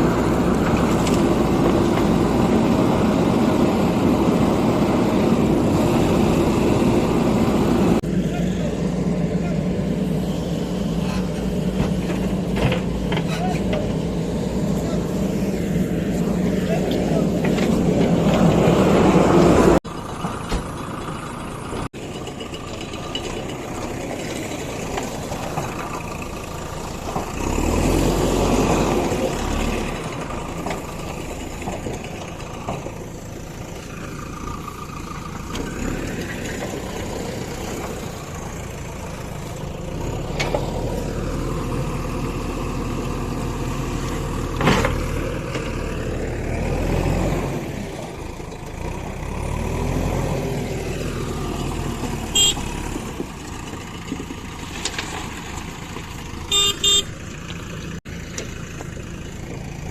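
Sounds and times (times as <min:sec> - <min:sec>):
heavy diesel engines revving: 0:00.0 - 0:59.9.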